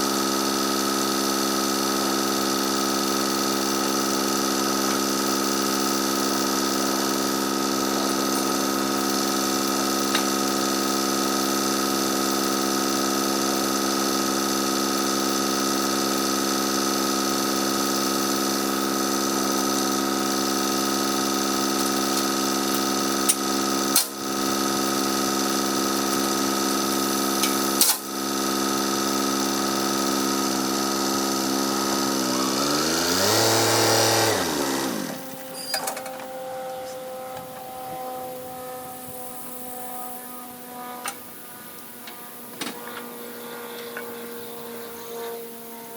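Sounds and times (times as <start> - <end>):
tractor engine running: 0.0 - 39.7.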